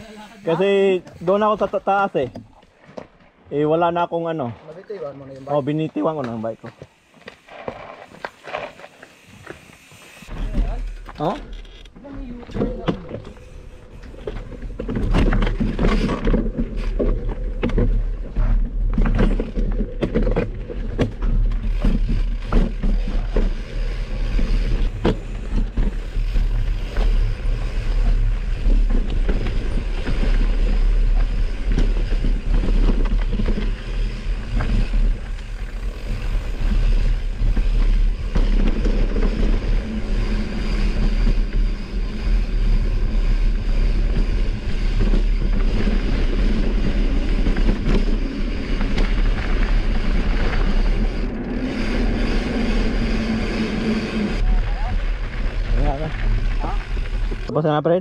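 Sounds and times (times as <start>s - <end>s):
mountain bike rumbling and rattling: 0.0s - 58.0s.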